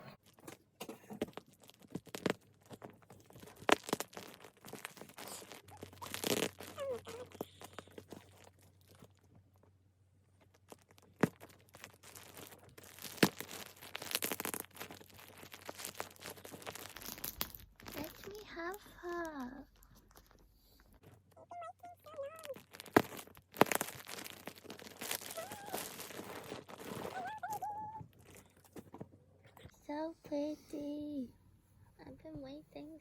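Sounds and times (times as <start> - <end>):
packaging crinkling and tearing: 1.1 - 9.3, 10.4 - 29.0.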